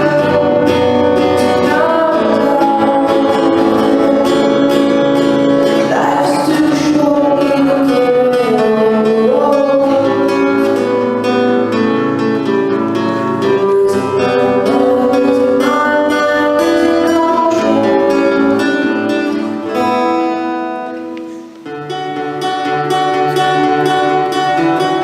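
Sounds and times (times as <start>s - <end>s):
guitar strumming chords: 0.0s - 25.0s.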